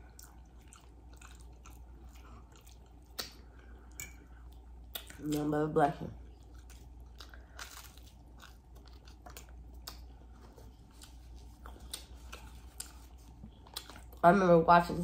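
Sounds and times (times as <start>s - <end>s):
close-miked chewing: 0.0s - 14.5s.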